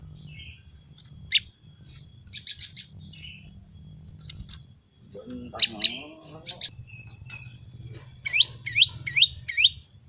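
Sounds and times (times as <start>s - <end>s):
bird sharp chirps: 0.0s - 10.0s.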